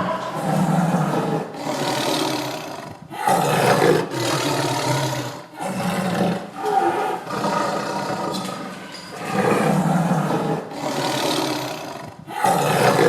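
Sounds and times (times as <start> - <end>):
tiger roaring and growling: 0.0 - 13.0.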